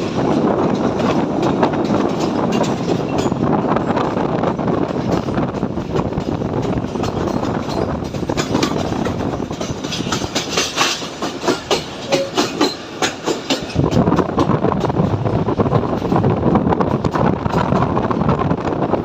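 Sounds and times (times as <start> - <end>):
clickety-clack wheel clicks: 0.0 - 18.7
train running on rails: 0.0 - 19.0.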